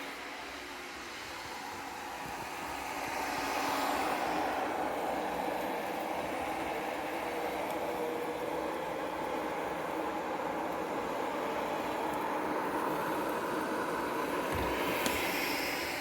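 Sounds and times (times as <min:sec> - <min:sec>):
robot vacuum cleaner whirring: 0:00.0 - 0:16.0.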